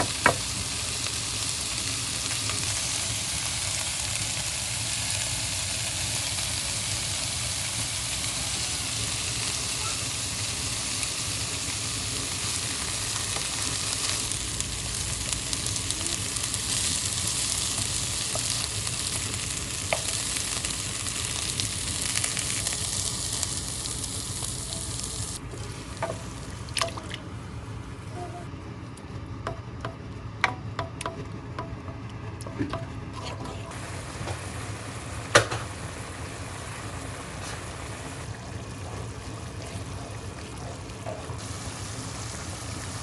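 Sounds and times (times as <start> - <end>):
food sizzling in hot oil: 0.0 - 26.7, 33.7 - 43.0.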